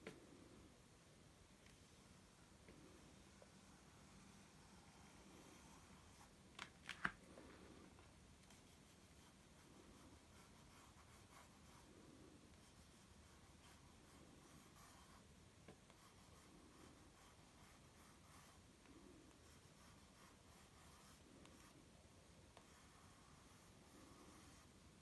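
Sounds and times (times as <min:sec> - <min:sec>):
pencil scratching on paper: 0:01.7 - 0:06.4, 0:08.5 - 0:21.9, 0:22.5 - 0:24.8.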